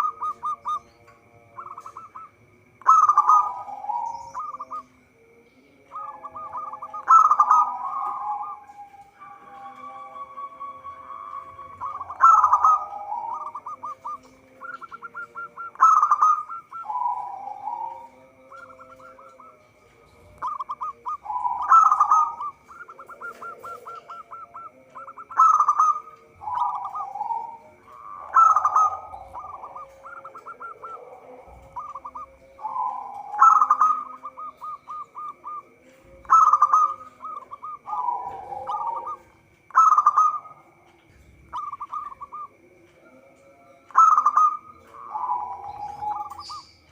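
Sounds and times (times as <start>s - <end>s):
dove cooing with staccato notes: 0.0s - 46.9s.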